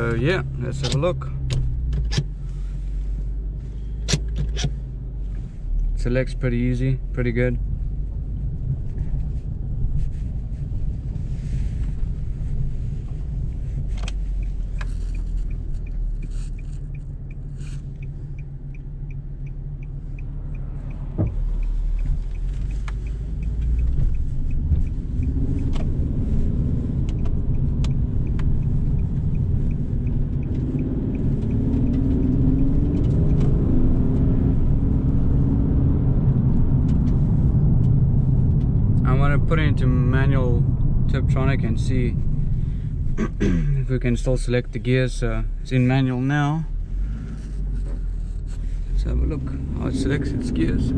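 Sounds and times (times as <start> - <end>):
car engine running: 0.0 - 50.9
turn signal ticking: 0.0 - 50.9.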